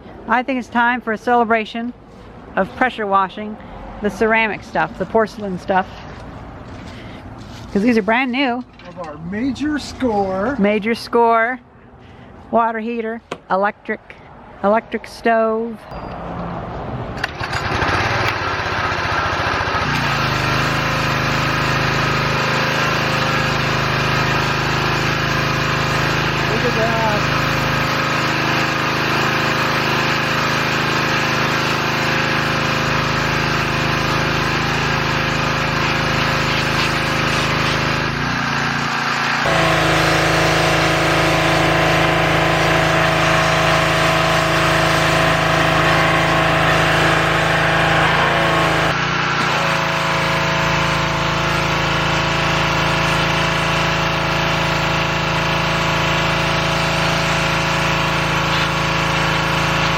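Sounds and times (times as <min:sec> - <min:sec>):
pressure washer running: 0:03.6 - 0:11.1, 0:17.2 - 0:59.9.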